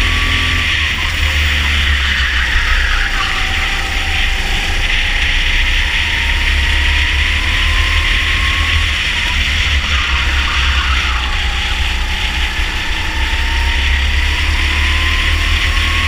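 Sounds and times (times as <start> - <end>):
go-kart engine at full throttle: 0.0 - 16.0.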